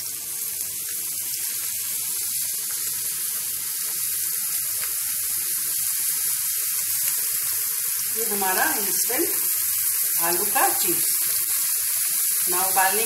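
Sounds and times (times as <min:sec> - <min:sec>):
potato slices sizzling in hot oil: 0:00.0 - 0:13.0.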